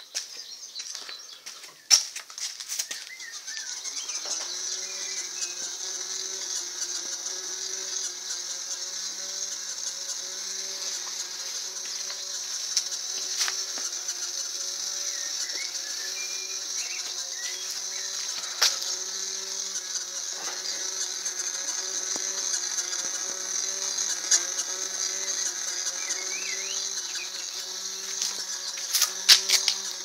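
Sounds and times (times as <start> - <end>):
electric motor humming and whirring: 0.0 - 30.0.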